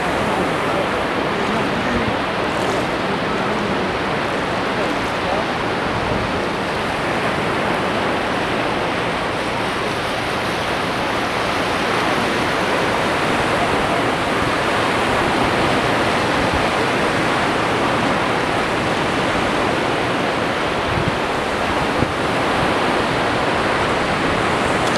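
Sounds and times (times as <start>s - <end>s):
sea surf washing ashore: 0.0s - 24.9s.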